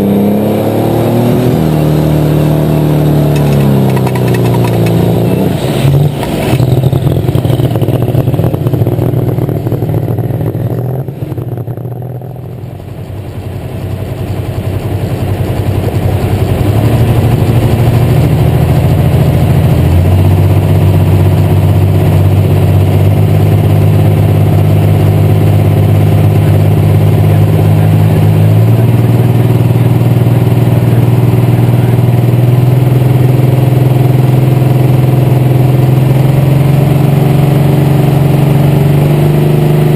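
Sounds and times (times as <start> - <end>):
tractor engine running loud: 0.0 - 39.9.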